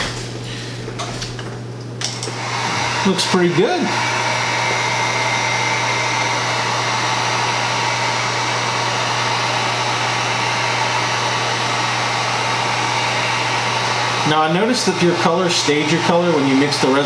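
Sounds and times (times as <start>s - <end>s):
heat gun blowing air: 2.0s - 17.0s.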